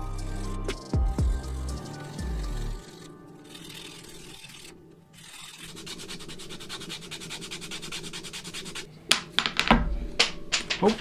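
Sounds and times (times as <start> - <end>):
sandpaper rubbing on wood: 0.0 - 8.9.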